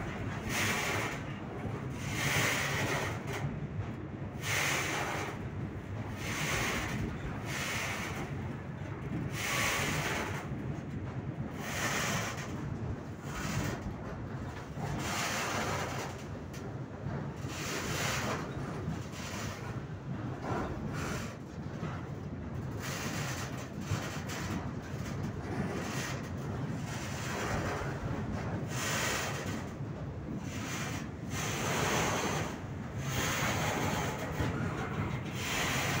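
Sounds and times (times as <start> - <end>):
freight train cars rumbling: 0.0 - 36.0
wind buffeting microphone: 0.0 - 36.0.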